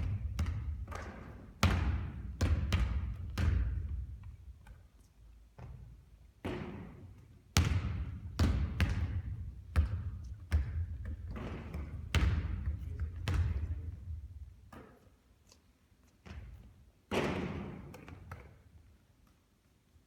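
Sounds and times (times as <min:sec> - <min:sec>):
basketball bouncing on court: 0:00.0 - 0:04.5, 0:05.6 - 0:15.0, 0:16.2 - 0:18.6.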